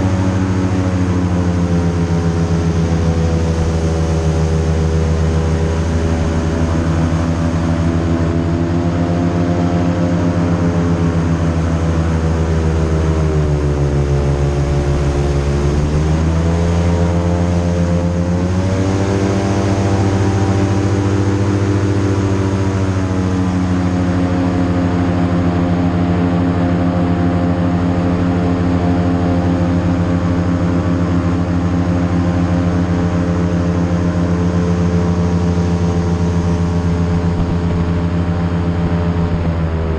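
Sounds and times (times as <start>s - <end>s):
airboat engine drone: 0.0s - 39.9s.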